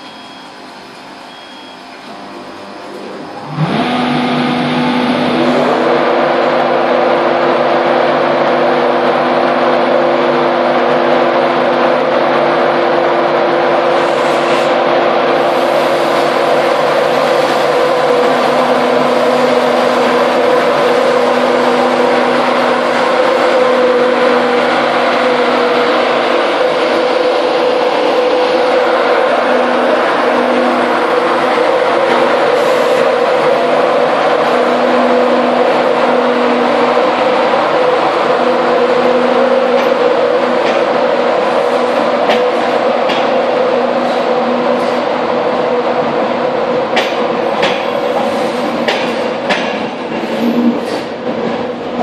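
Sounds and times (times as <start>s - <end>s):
electric locomotive whine and rumble: 0.0s - 52.0s.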